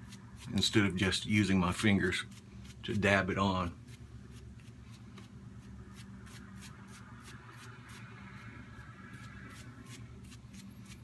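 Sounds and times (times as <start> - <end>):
shaving brush scratching on face: 0.0 - 8.0, 9.1 - 11.0
faint steady hum: 0.0 - 11.0.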